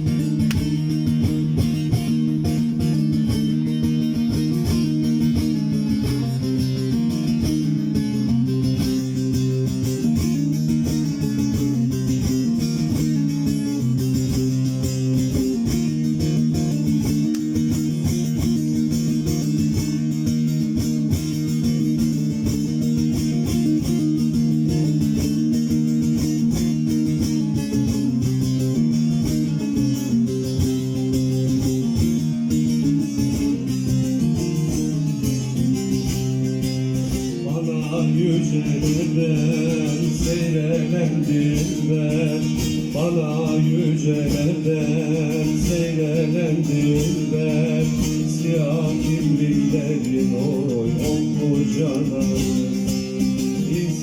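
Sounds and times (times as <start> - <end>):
plucked lute melody: 0.0 - 54.0.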